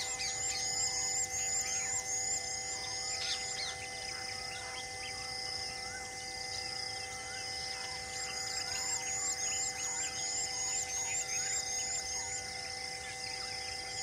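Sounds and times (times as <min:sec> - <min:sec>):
birds chirping: 0:00.0 - 0:14.0
hum of held tones: 0:00.0 - 0:14.0.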